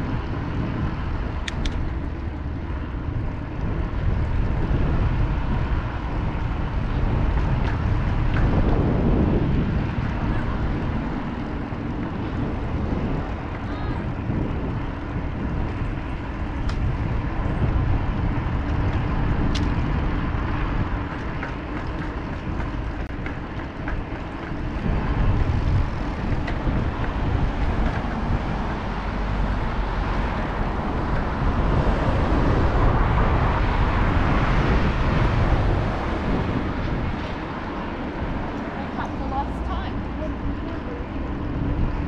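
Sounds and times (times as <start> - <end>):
wind rumble and hiss on microphone: 0.0 - 42.0.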